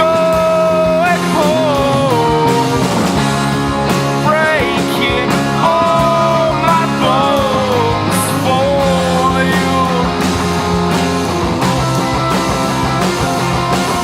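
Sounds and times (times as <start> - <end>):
bending lead guitar line: 0.0 - 14.0
rock band playing: 0.0 - 14.0.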